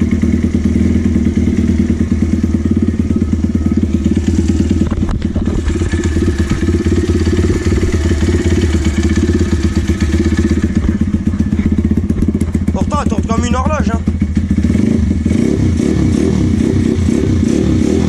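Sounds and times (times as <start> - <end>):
pit bike engine idling: 0.0 - 18.0.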